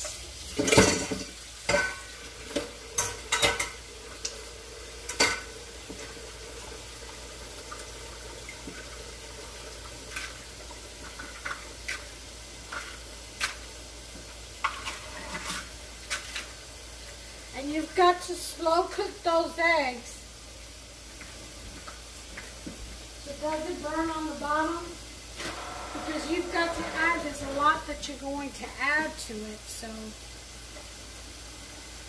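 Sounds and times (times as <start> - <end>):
eggs sizzling in a frying pan: 0.0 - 32.0.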